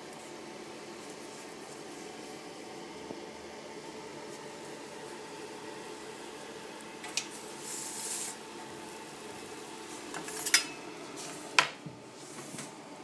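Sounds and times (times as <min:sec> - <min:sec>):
toaster humming: 0:00.0 - 0:13.0.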